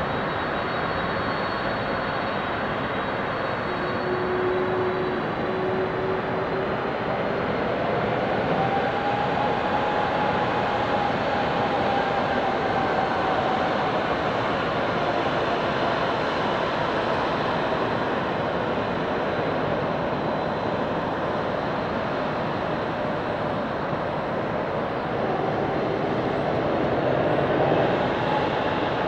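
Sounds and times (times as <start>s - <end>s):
faint jet engine whine: 0.0s - 29.0s
jet engine rumble and hiss: 0.0s - 29.0s.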